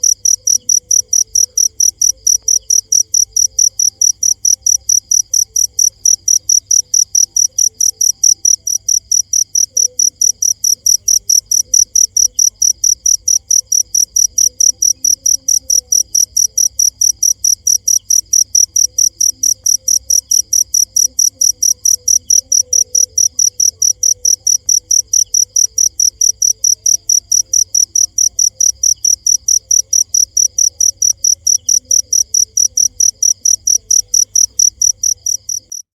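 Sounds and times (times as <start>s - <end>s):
cricket chirping: 0.0s - 35.9s.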